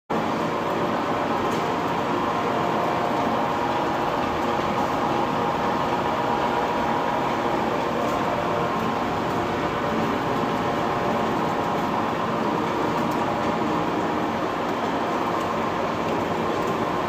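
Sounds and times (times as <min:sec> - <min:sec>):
oil expeller machine drone: 0:00.1 - 0:17.0.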